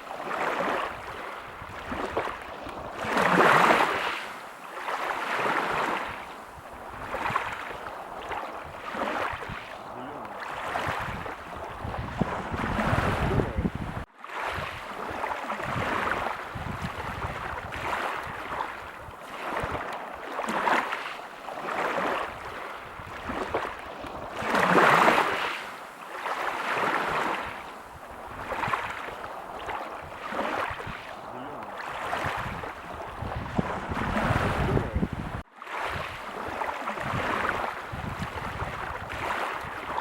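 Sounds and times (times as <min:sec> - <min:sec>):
ocean waves washing onto beach: 0:00.0 - 0:40.0.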